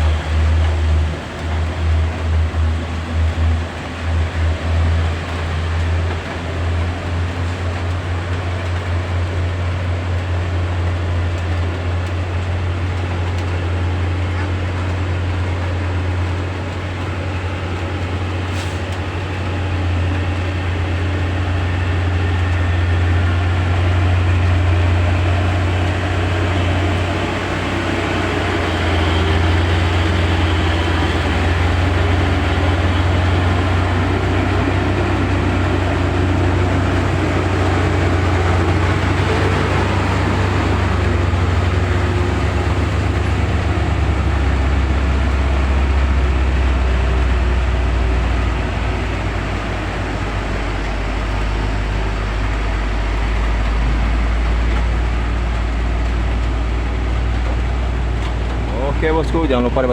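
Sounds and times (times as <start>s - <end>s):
vehicle engines and road noise: 0.0s - 59.9s.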